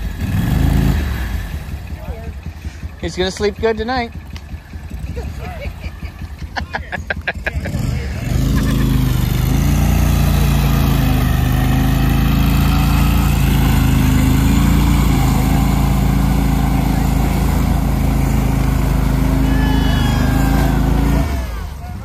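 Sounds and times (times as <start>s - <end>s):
vehicle engine running under load: 0.0s - 22.0s.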